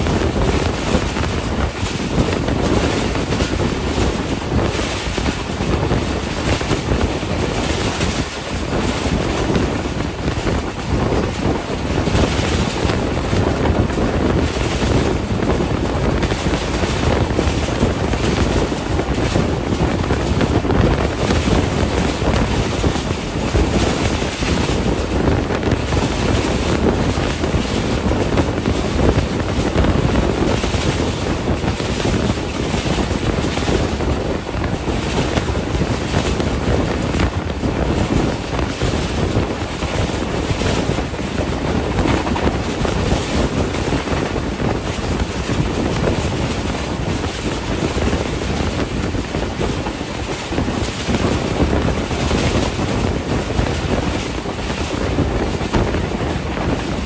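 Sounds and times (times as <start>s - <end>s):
train wheels rumbling on rails: 0.0s - 57.0s
wind buffeting microphone: 0.0s - 57.0s.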